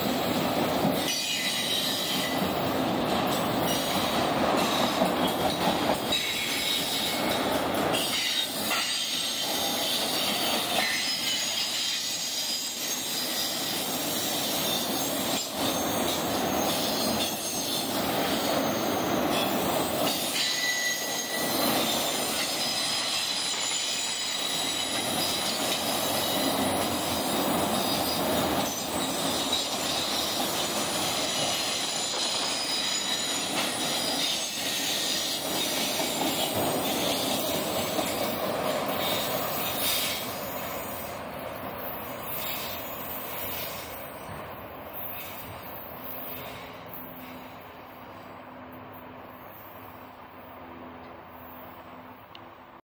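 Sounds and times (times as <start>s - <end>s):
train wheels squealing: 0.0s - 52.2s
freight train rumble: 0.0s - 52.8s.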